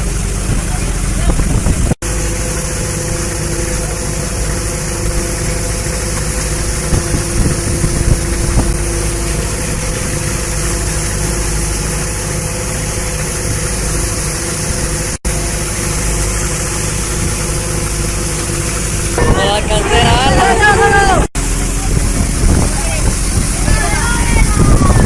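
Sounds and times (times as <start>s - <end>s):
boat engine and deck machinery drone: 0.0s - 25.0s.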